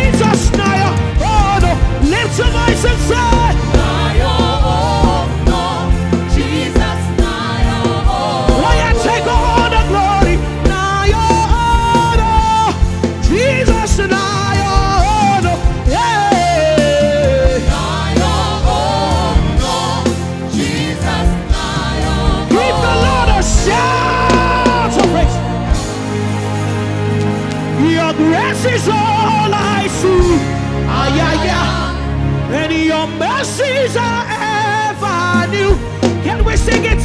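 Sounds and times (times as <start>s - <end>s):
lead singer holding notes: 0.0s - 37.0s
live gospel band: 0.0s - 37.0s
people singing: 0.0s - 37.0s.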